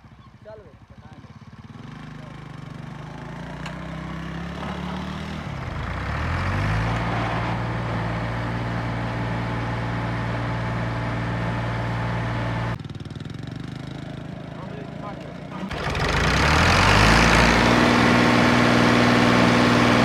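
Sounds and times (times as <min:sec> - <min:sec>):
motorcycle engine running: 0:00.0 - 0:06.1, 0:08.6 - 0:20.0.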